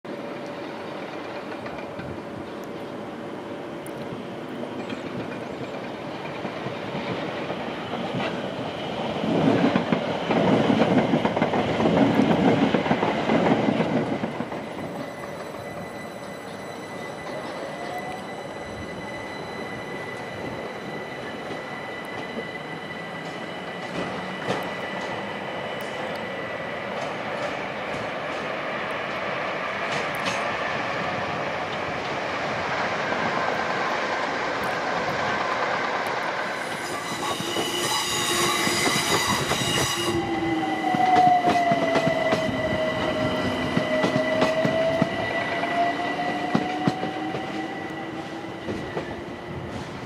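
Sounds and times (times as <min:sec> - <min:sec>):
train wheels rumbling and clattering: 0:00.1 - 0:03.2, 0:03.9 - 0:50.0
rail noise: 0:00.1 - 0:50.0.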